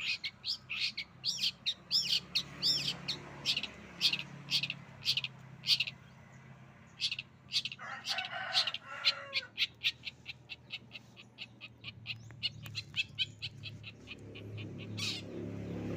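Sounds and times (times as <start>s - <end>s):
songbird singing rapid high notes: 0.0s - 6.2s, 6.9s - 8.8s, 9.4s - 15.9s.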